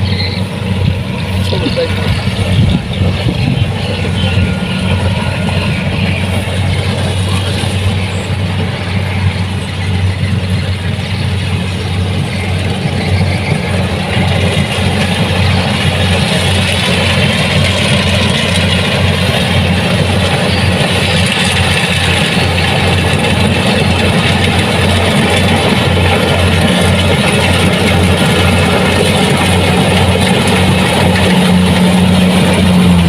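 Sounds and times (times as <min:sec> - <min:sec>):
broad mechanical rush: 0:00.0 - 0:33.0
combine harvester diesel engine drone: 0:00.0 - 0:33.0.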